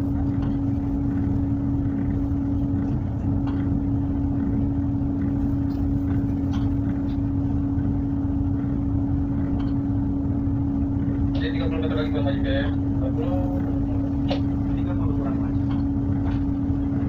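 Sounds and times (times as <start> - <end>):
boat diesel engines rumbling: 0.0 - 17.0.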